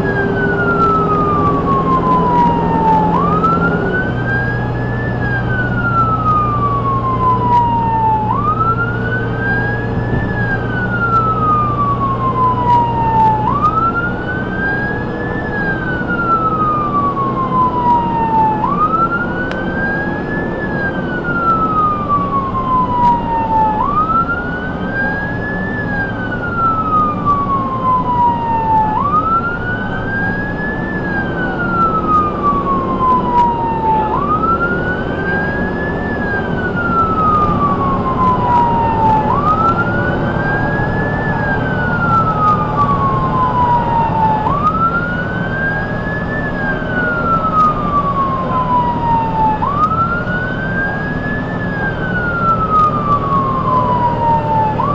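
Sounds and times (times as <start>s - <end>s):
ambulance siren wailing: 0.0s - 54.9s
road noise: 0.0s - 54.9s
truck engine drone: 0.0s - 54.9s.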